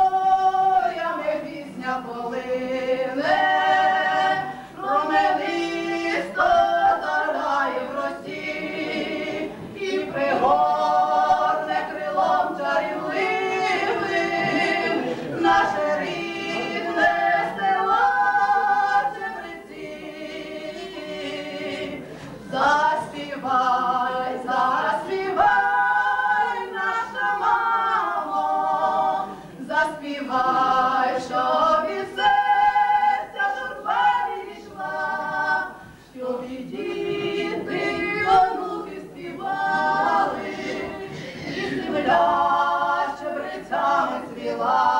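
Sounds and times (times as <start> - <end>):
women singing unaccompanied: 0.0 - 44.9.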